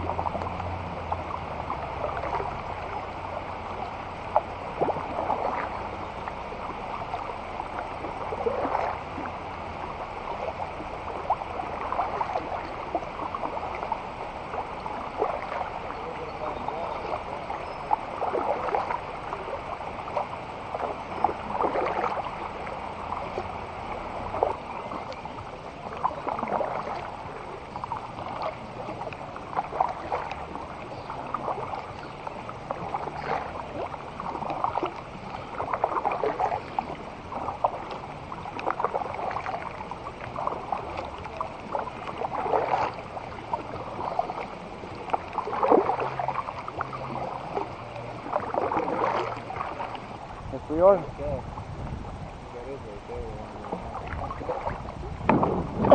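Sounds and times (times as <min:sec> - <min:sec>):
kayak paddle splashing in water: 0:00.0 - 0:55.9.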